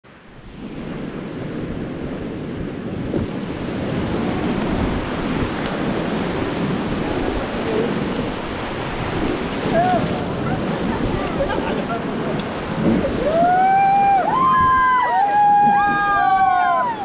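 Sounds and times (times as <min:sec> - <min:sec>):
rushing river water: 0:00.1 - 0:17.0
wind buffeting microphone: 0:00.3 - 0:17.0.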